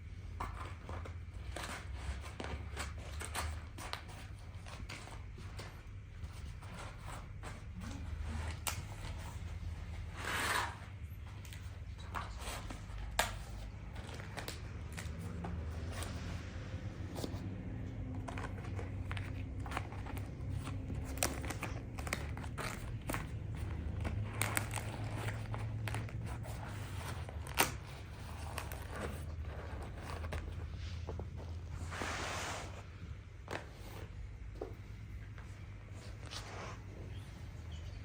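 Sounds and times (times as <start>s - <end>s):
crinkling handling noises: 0.0s - 38.0s
steady low hum: 0.0s - 38.0s.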